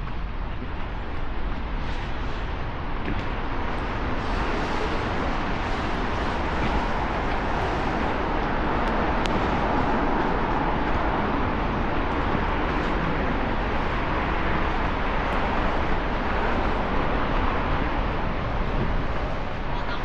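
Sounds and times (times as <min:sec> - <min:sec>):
rain: 0:00.0 - 0:20.0
traffic on wet roads: 0:00.6 - 0:20.0.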